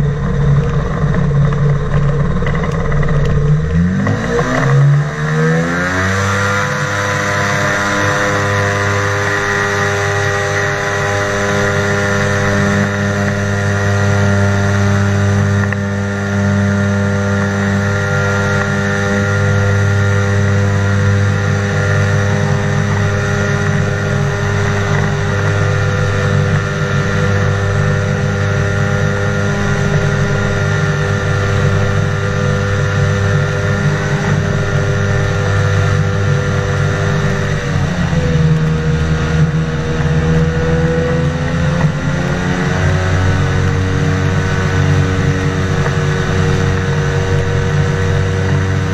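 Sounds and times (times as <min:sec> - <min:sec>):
aircraft engine and propeller: 0:00.0 - 0:48.9.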